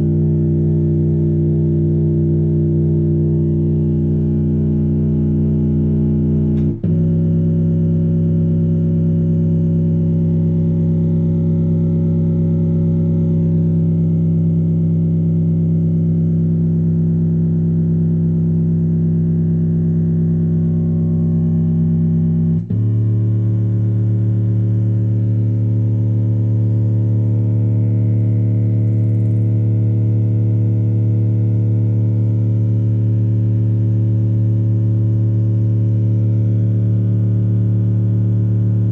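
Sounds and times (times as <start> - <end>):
synthesizer bass notes: 0.0 - 38.9.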